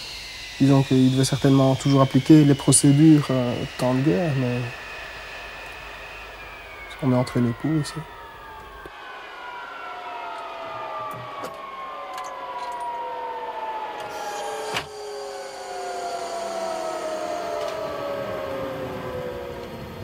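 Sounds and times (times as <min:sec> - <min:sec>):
jet engine winding down: 0:00.0 - 0:20.0.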